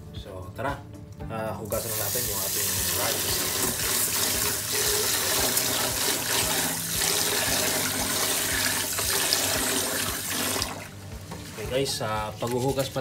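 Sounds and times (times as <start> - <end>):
tap water running into a pot: 1.7 - 13.0.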